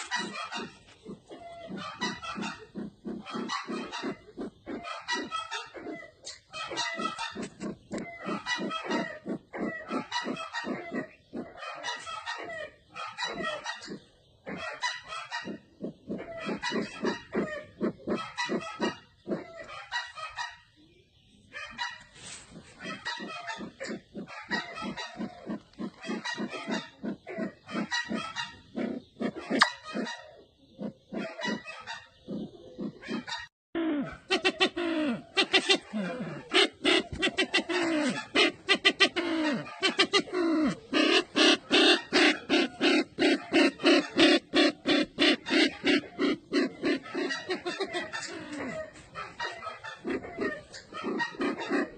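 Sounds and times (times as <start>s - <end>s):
pheasant calling harsh notes: 0.0s - 20.5s, 21.6s - 51.9s.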